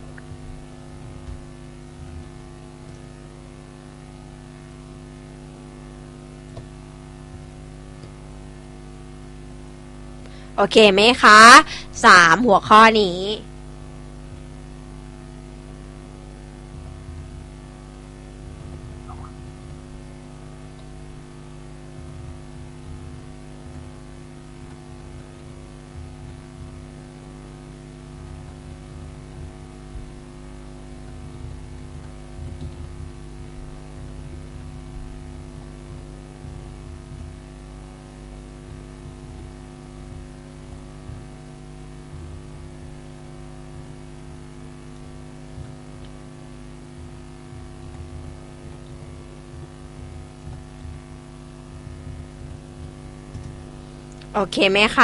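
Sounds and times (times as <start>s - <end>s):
faint low rumbles: 0.0s - 5.0s, 13.5s - 55.0s
electrical mains hum: 0.0s - 55.0s.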